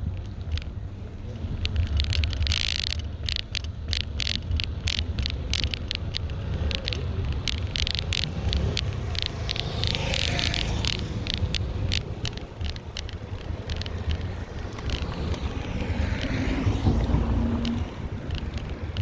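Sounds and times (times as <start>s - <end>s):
bicycle clicks and rattles: 0.0s - 19.0s
wind and road rumble: 0.0s - 19.0s.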